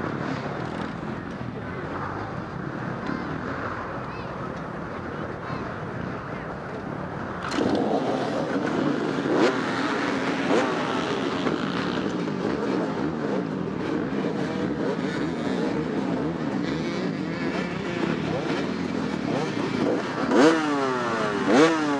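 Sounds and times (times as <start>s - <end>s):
dirt bike engines revving: 0.0s - 21.9s.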